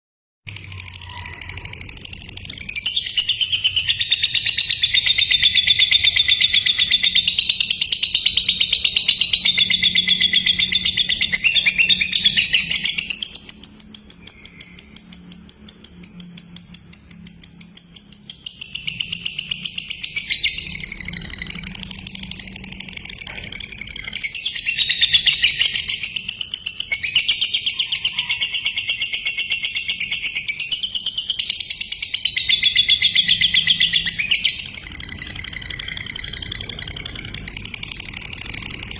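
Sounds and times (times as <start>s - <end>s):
lovebird chattering song: 0.5s - 38.9s.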